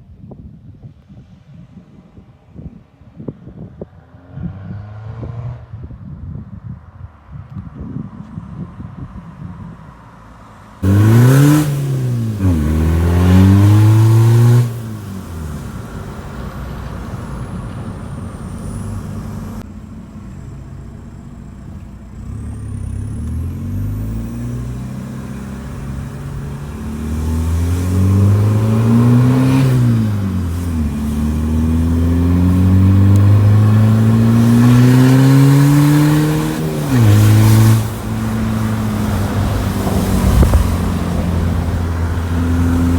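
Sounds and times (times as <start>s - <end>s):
car engine accelerating: 3.8s - 6.2s, 9.8s - 42.9s.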